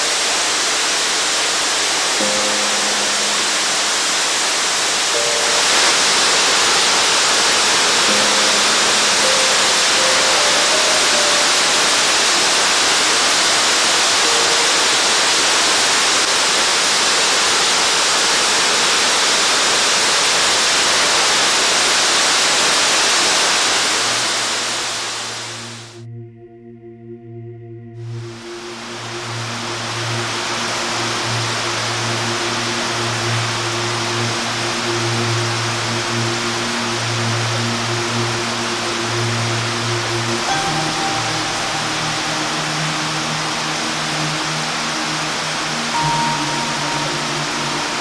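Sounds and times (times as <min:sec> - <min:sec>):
waterfall rushing: 0:00.0 - 0:26.0, 0:28.3 - 0:48.0
faint sustained musical notes: 0:00.0 - 0:48.0.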